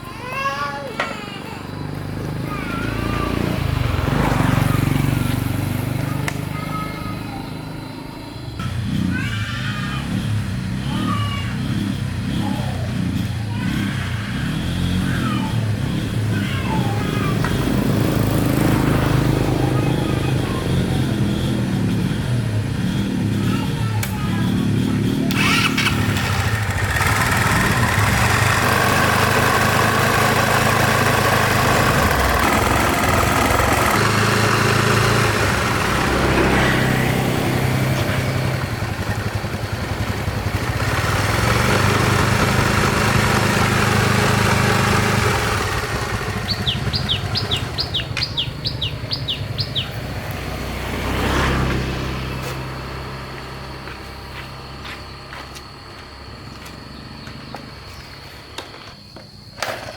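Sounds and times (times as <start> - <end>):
motorcycle engine running: 1.5 - 58.8.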